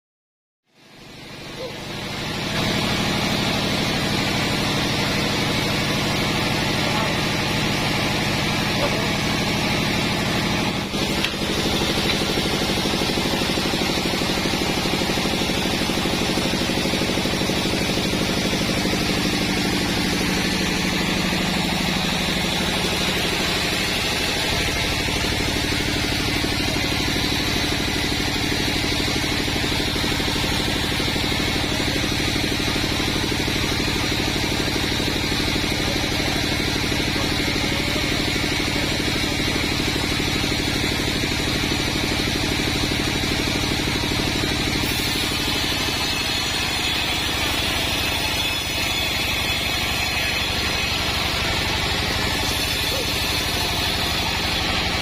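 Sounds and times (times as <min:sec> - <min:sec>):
band sawmill sawing log: 0:01.8 - 0:55.0.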